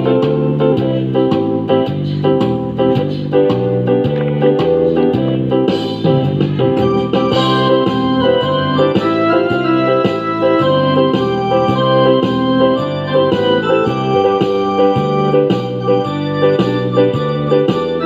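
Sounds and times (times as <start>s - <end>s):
keyboard chord music: 0.0s - 18.0s.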